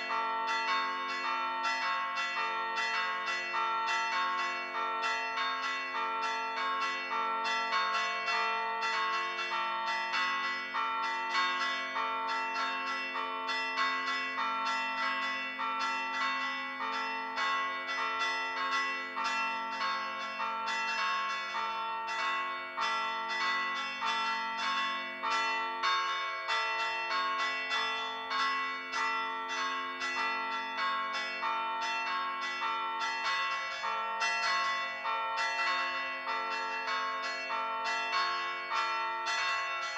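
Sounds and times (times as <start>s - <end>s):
church bells chimed rhythmically: 0.0s - 39.9s.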